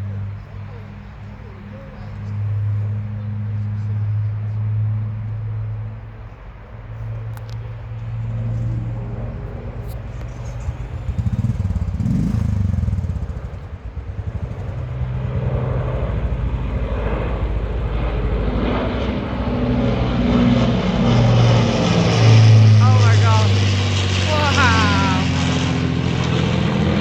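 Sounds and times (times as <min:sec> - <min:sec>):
propeller plane engines droning: 0:00.0 - 0:27.0.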